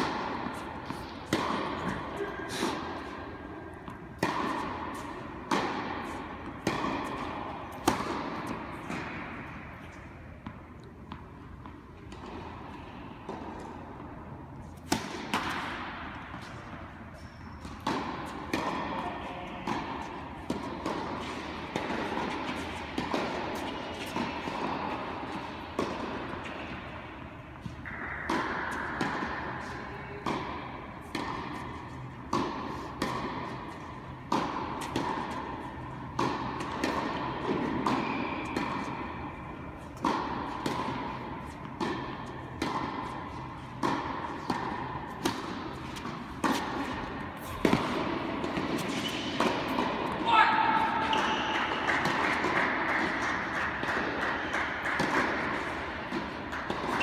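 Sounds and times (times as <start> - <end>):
steady hall hum: 0.0 - 57.0
tennis balls bouncing on court: 0.0 - 57.0
tennis balls hit by rackets: 0.0 - 57.0.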